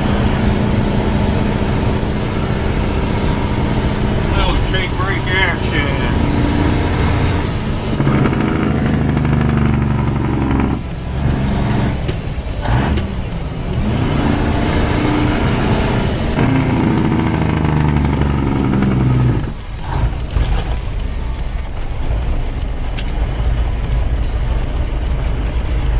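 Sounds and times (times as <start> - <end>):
diesel engine compression braking: 0.0 - 25.9.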